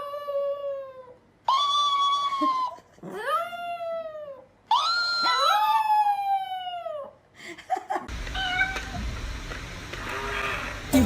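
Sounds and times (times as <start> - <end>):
noisy room: 0.0 - 11.0.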